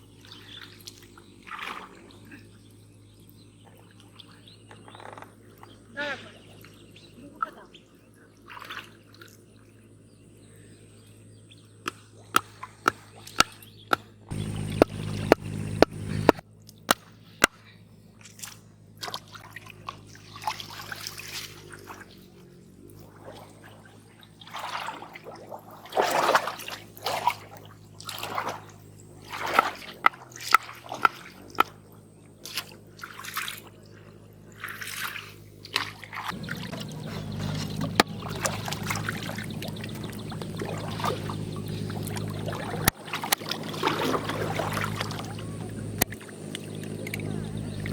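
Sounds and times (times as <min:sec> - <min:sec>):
low steady hum: 0:00.0 - 0:47.9
water splashing and sloshing: 0:00.0 - 0:47.9.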